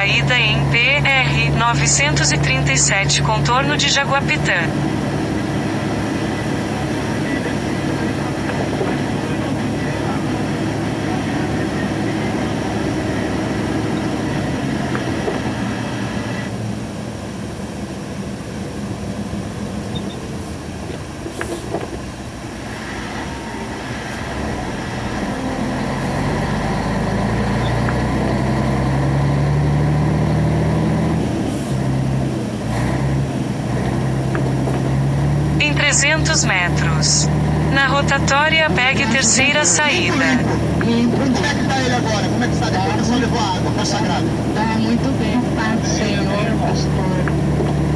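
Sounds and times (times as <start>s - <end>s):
road and tyre noise: 0.0s - 47.9s
truck engine running: 0.0s - 47.9s.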